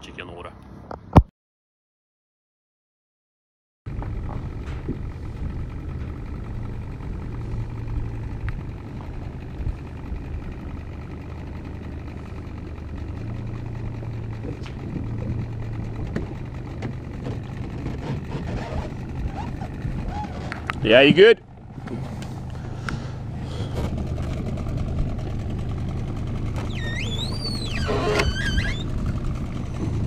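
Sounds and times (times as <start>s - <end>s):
outboard motor running: 3.9s - 30.0s.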